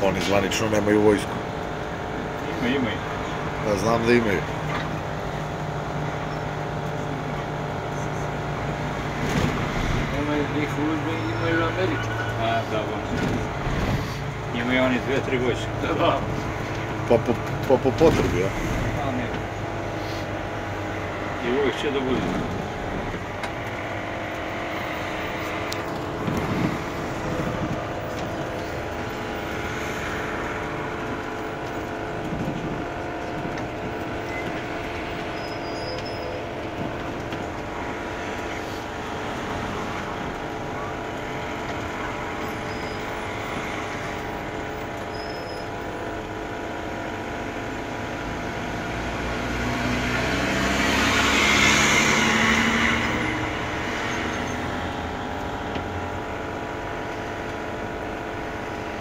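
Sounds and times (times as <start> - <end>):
road noise: 0.0 - 59.0
vehicle engine hum: 0.0 - 59.0.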